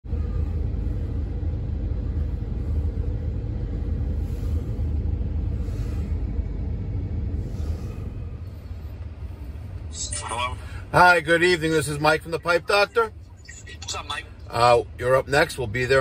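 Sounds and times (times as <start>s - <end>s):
vehicle engine rumble inside cab: 0.0s - 16.0s.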